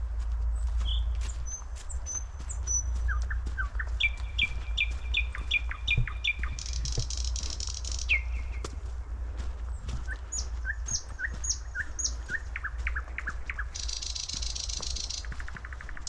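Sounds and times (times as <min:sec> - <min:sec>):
songbirds calling: 0:00.0 - 0:16.0.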